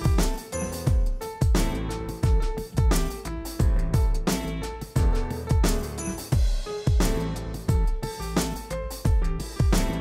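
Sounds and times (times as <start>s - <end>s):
upbeat hip-hop music: 0.0s - 10.0s.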